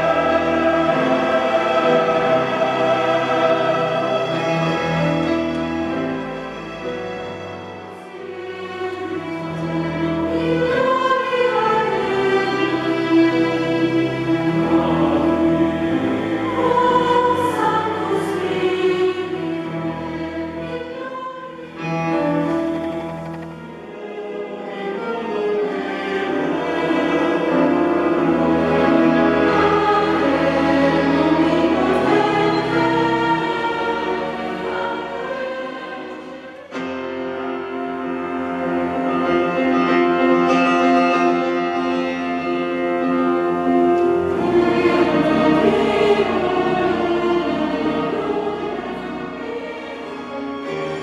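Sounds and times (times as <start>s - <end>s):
bowed strings: 0.0s - 51.0s
choir singing: 0.0s - 51.0s.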